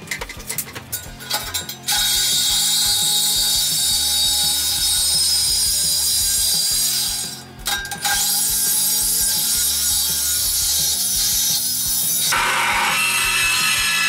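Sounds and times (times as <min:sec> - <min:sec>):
high-pitched metallic rasp: 0:00.0 - 0:14.0
reciprocating saw cutting steel: 0:00.0 - 0:14.0.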